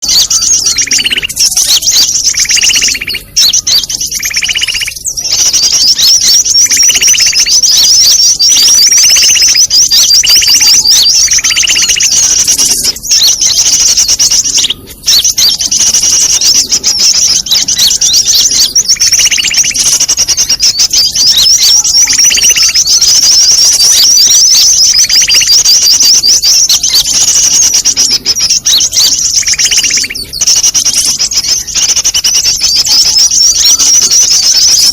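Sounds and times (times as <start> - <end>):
lower bird call: 0.0 - 34.9
rapid high bird chirps: 0.0 - 34.9.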